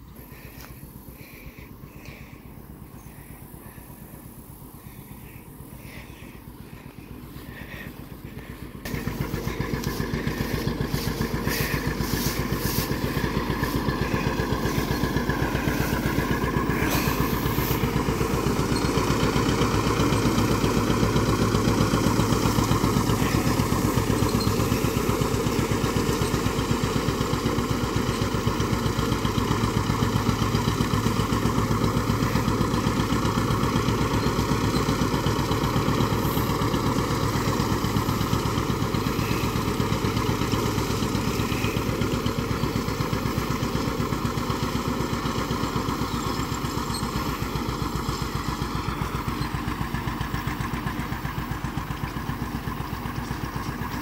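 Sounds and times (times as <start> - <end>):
tractor engine putting: 0.0 - 54.0.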